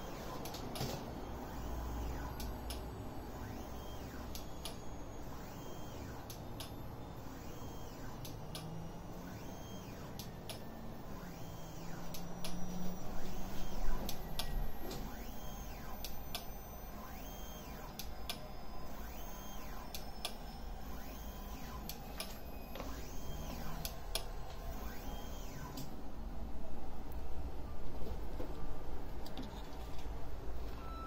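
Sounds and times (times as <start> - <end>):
turntable motor whirring: 0.0 - 26.0.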